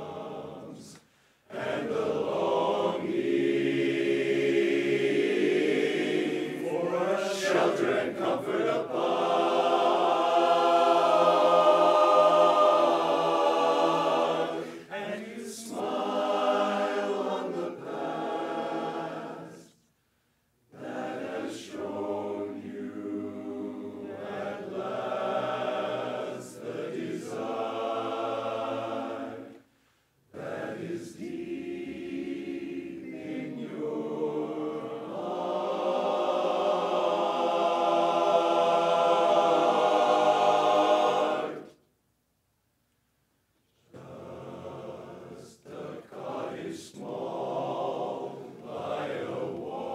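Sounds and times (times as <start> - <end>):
men's chorus singing a cappella: 0.0 - 19.8, 20.7 - 29.7, 30.3 - 41.8, 43.9 - 49.9.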